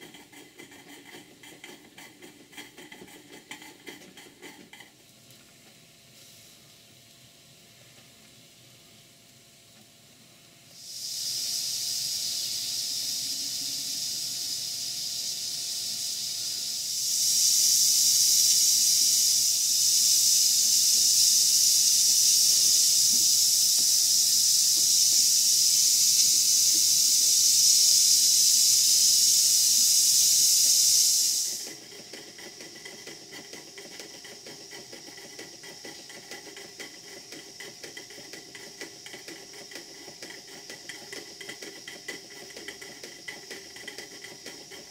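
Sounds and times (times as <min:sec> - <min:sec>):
model steam engines running: 0:00.0 - 0:05.5, 0:10.8 - 0:44.9
steam hissing from valve: 0:00.0 - 0:44.9.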